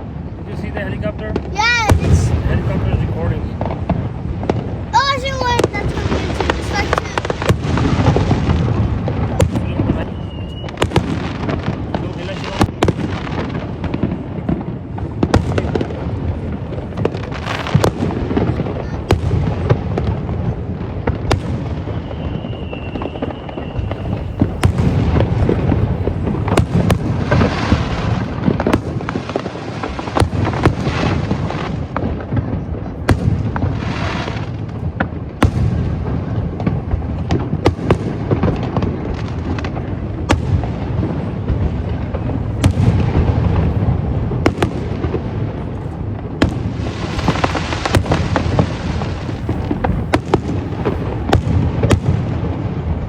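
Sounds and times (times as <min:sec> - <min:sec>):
fireworks cracks and bangs: 0:00.0 - 0:53.0
low rumble of fireworks booms: 0:00.0 - 0:53.0
hissing crackling bursts: 0:01.4 - 0:14.4, 0:15.4 - 0:32.3, 0:37.5 - 0:52.8.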